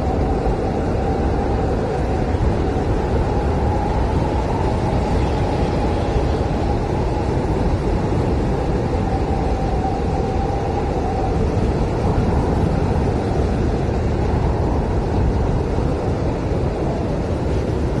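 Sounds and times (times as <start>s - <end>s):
blizzard wind howling: 0.0s - 18.0s.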